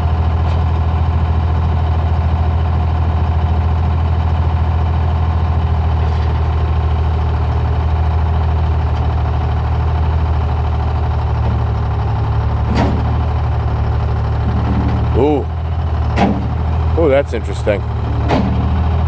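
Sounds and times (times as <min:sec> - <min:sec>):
heavy engine idling: 0:00.0 - 0:19.0.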